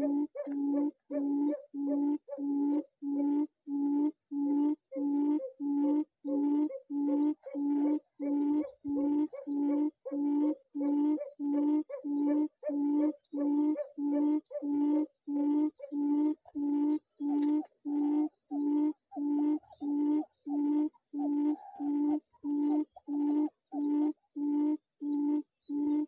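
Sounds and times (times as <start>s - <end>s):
quail calling: 0.0s - 26.0s.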